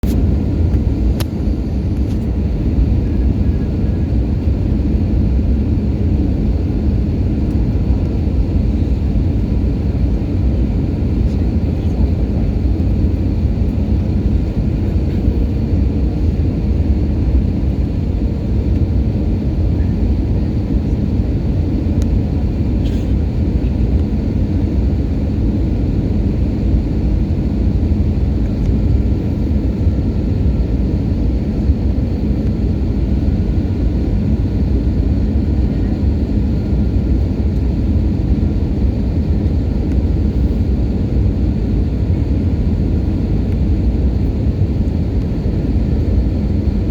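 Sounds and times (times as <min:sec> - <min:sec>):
airliner engines and airflow in cabin: 0:00.0 - 0:46.9.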